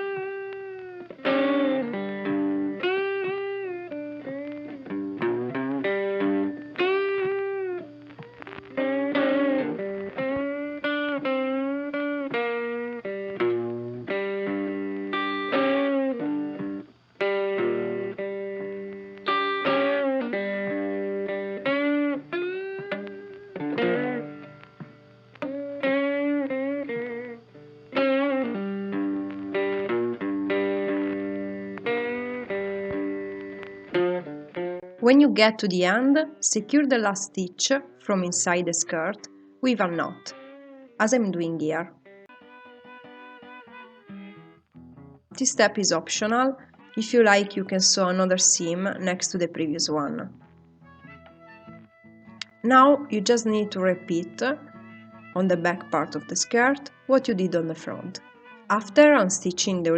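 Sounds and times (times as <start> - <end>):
blues electric guitar music: 0.0 - 59.9.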